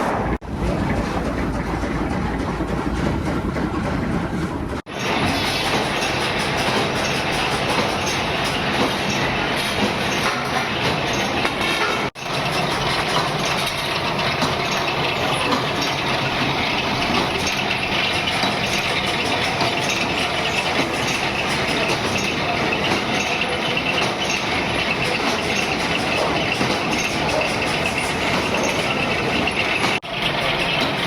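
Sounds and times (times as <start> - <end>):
factory machinery running: 0.0 - 31.0.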